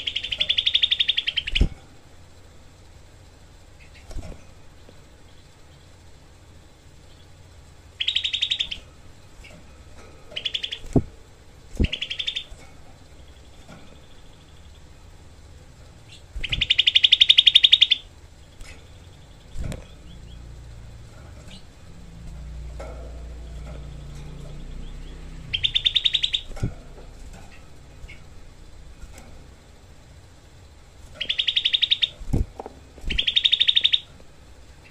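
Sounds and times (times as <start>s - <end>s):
bird rattling trills: 0.0s - 34.9s.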